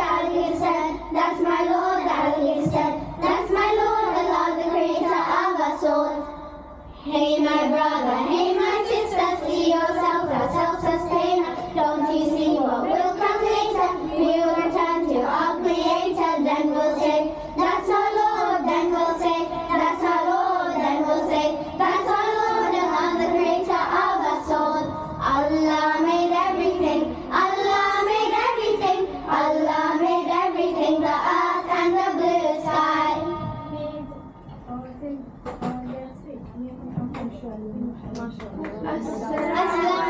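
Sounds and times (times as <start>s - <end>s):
children singing: 0.0s - 6.3s, 7.1s - 33.5s, 39.0s - 40.0s.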